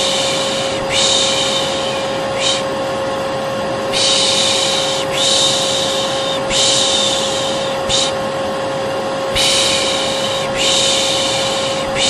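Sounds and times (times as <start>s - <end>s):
person shushing: 0.0s - 2.8s, 3.9s - 8.2s, 9.3s - 12.0s
vacuum cleaner humming: 0.0s - 12.0s.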